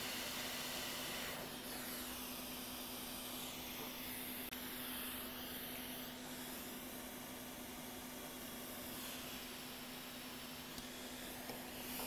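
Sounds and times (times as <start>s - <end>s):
hot air blower hissing: 0.0s - 12.0s.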